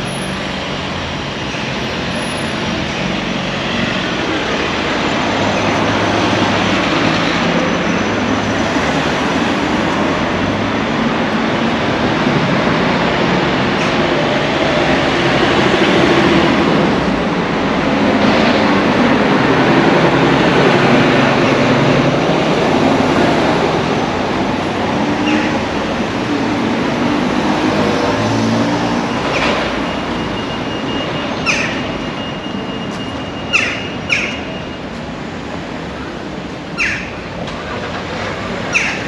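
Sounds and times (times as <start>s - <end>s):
passing vehicle rumble: 0.0s - 34.2s.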